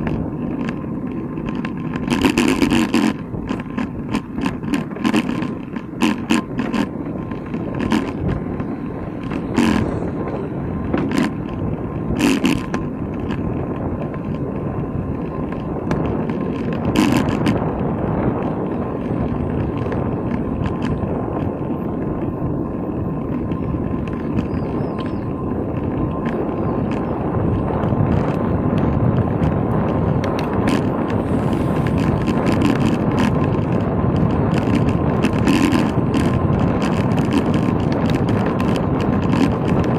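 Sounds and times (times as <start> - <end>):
bicycle tyre rumble: 0.0 - 39.9
wind on microphone: 0.0 - 39.9.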